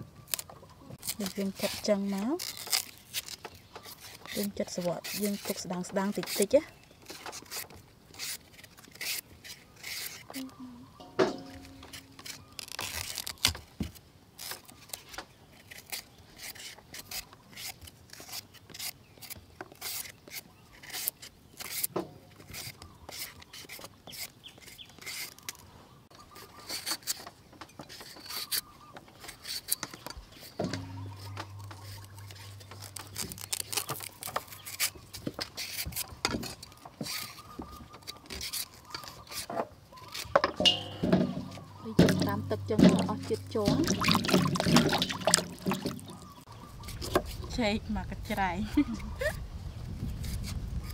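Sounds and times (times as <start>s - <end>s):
knives scraping banana skins: 0.0s - 25.6s, 26.2s - 47.6s, 50.0s - 50.9s.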